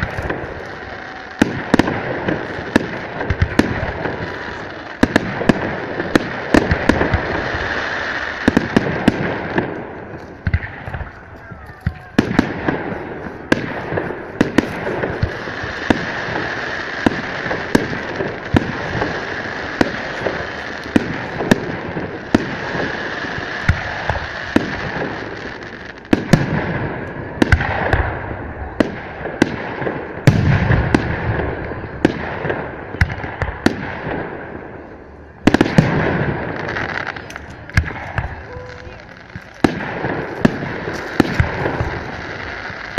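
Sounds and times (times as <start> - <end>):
fireworks bangs: 0.0 - 42.9
fireworks crackle: 0.0 - 42.9
heavy fireworks booms: 0.0 - 42.9.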